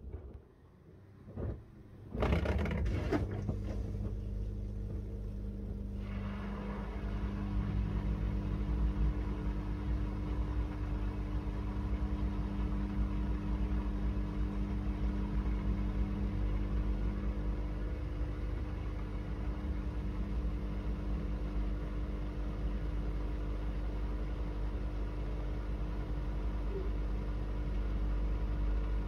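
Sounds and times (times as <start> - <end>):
washing machine running: 0.0 - 29.0.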